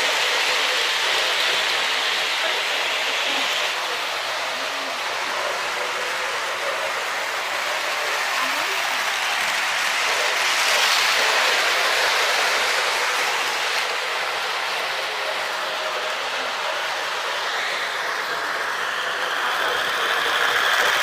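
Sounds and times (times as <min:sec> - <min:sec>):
model train rolling whir: 0:00.0 - 0:21.0.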